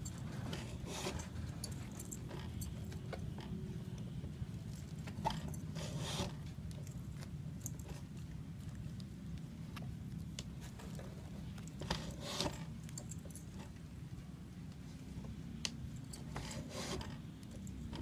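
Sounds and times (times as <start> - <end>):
rustling and scraping of leather: 0.0 - 13.8, 14.7 - 18.0
steady low hum: 0.0 - 18.0.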